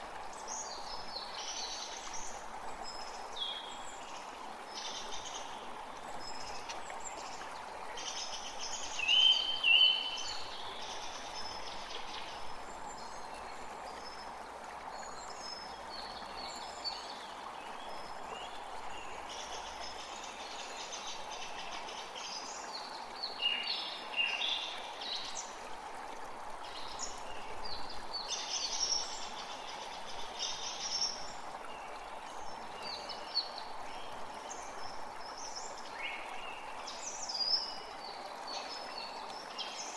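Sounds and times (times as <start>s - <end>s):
creek water rushing: 0.0s - 39.9s
songbirds chirping: 0.2s - 39.9s.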